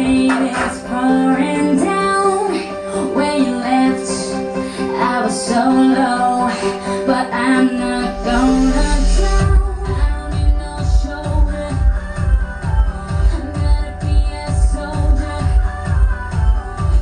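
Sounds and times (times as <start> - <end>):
person singing: 0.0 - 17.0
pop instrumental accompaniment: 0.0 - 17.0.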